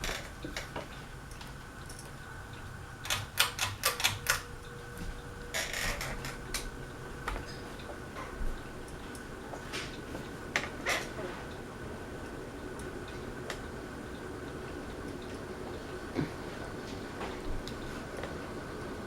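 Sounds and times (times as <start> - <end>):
ceiling fan humming: 0.0 - 19.0
fan clicking and ticking: 0.0 - 19.0.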